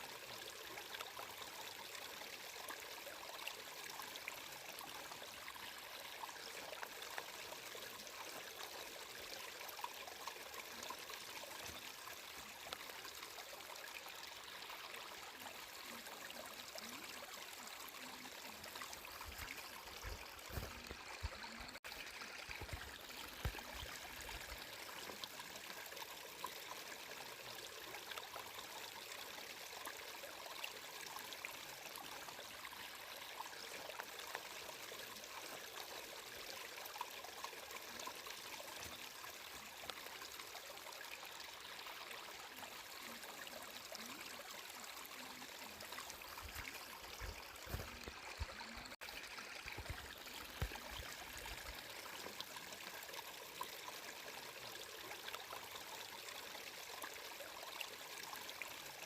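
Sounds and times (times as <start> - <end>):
water trickling in a stream: 0.0 - 59.0.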